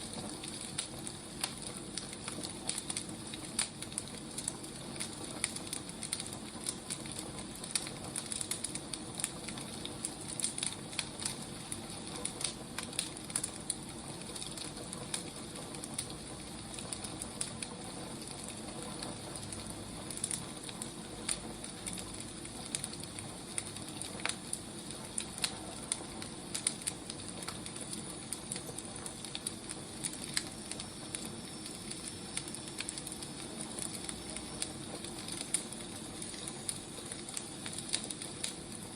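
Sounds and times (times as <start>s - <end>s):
firewood burning and crackling: 0.0s - 38.9s.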